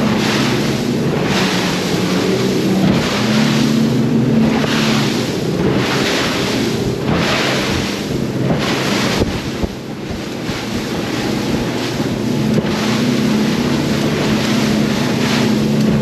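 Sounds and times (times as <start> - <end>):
outboard engines running: 0.0 - 16.0
water rushing past hull: 0.0 - 16.0
wind buffeting microphone: 0.0 - 16.0.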